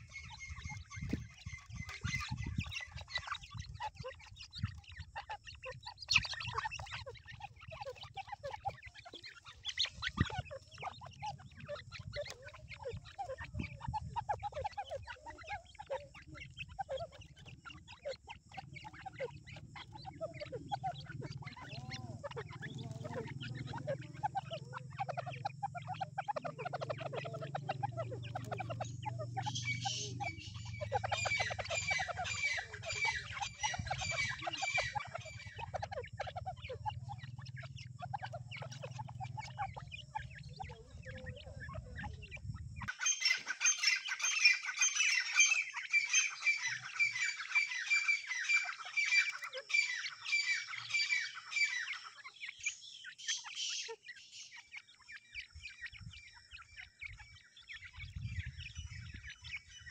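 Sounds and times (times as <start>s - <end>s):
chicks clucking: 0.0s - 59.9s
chicks twittering peeps: 0.0s - 59.9s.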